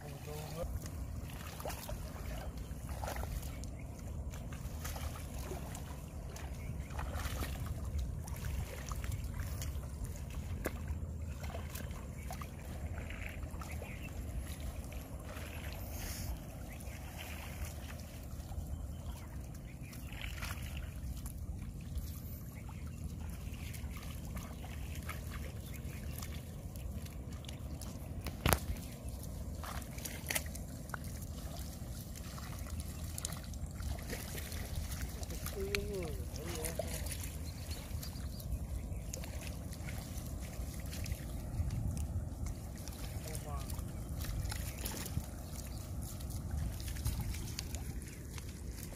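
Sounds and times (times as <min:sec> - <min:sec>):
river water splashing: 0:00.0 - 0:48.9.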